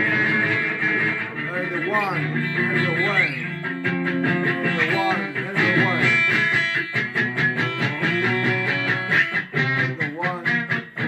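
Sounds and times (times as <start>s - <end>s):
electric guitar picked and strummed: 0.0s - 11.0s.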